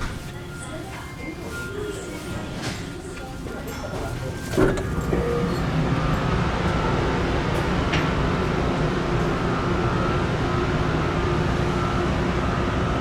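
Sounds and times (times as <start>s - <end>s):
ferry engines low rumble: 0.0s - 13.0s.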